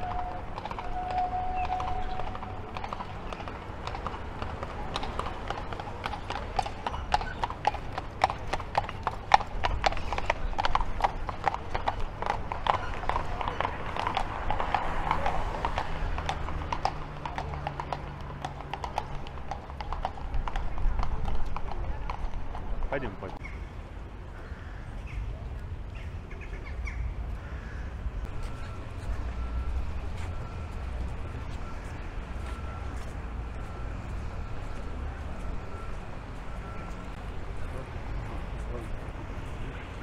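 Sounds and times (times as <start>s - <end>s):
horse hooves clip-clopping on street: 0.0s - 23.4s, 25.0s - 40.0s.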